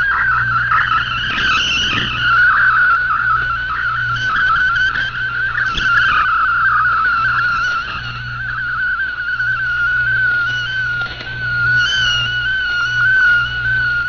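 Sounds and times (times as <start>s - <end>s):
low hum and band noise: 0.0s - 14.0s
warbling data tones: 0.0s - 14.0s.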